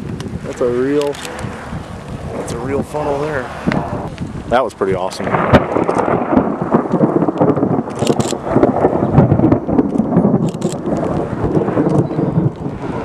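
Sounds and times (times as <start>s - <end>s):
thunder rumbling: 0.3s - 13.0s.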